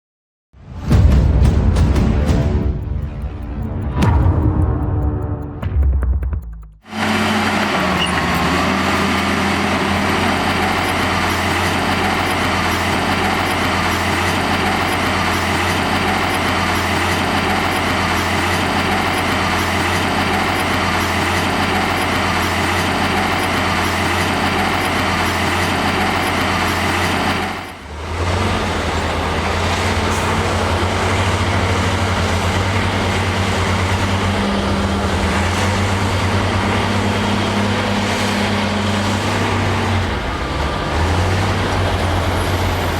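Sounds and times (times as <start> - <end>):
heavy diesel machinery droning: 6.8 - 42.9.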